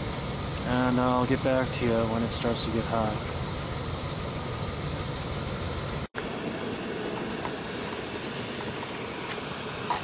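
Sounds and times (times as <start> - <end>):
camp stove burner hissing: 0.0 - 10.0.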